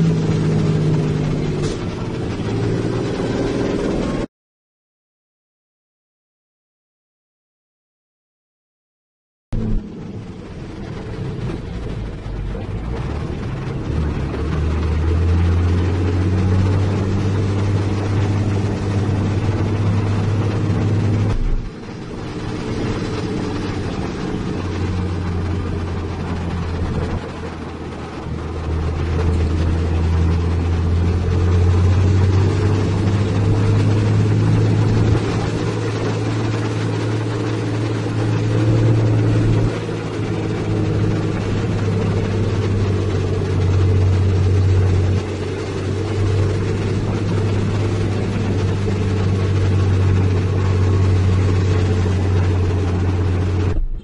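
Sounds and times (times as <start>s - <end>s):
truck diesel engine drone: 0.0s - 4.3s, 9.5s - 54.0s.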